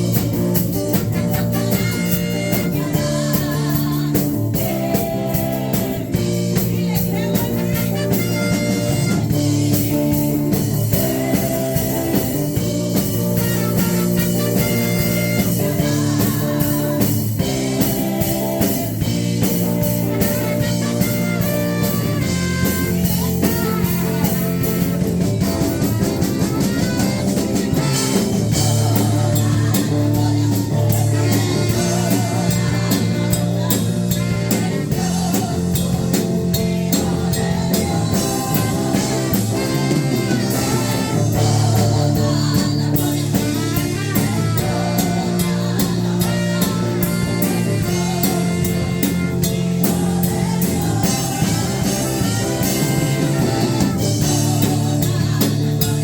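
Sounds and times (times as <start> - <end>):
band playing worship song: 0.0 - 56.0.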